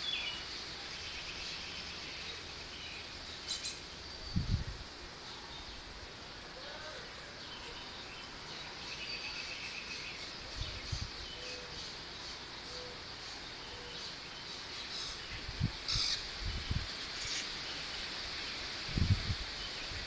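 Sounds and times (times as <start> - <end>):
high insect drone: 0.0 - 20.0
leaves hissing in wind: 0.0 - 20.0.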